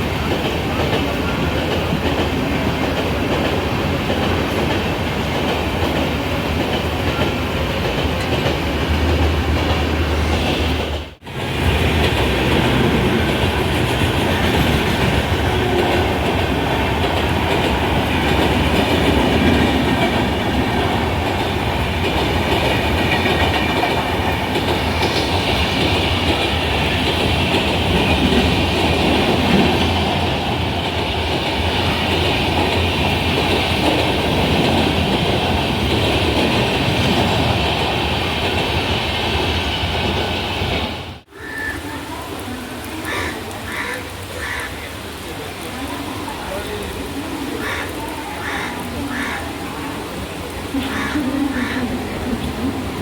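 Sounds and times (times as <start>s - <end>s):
train rumbling over rail joints: 0.0s - 41.3s, 48.8s - 53.0s.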